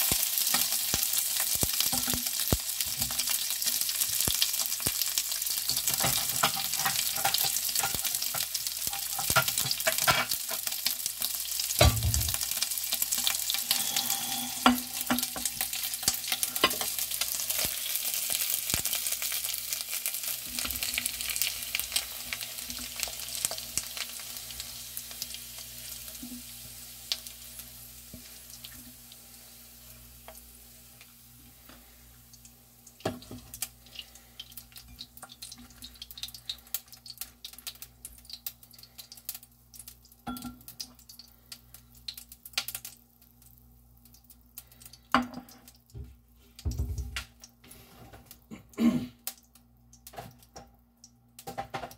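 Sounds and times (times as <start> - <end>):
sausages sizzling in frying pan: 0.0 - 48.5.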